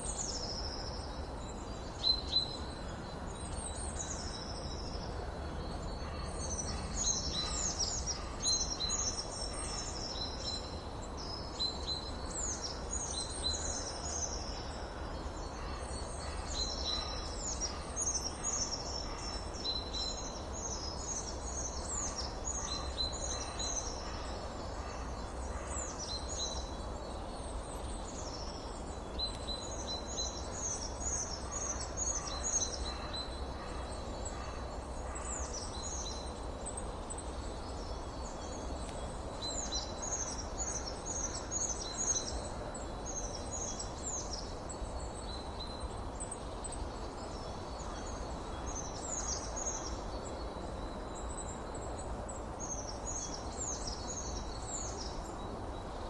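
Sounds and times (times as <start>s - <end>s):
background hiss: 0.0s - 56.0s
songbirds chirping: 0.0s - 56.0s.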